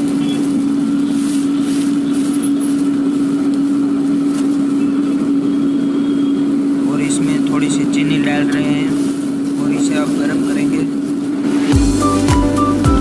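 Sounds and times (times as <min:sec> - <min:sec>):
gas stove roaring: 0:00.0 - 0:13.0.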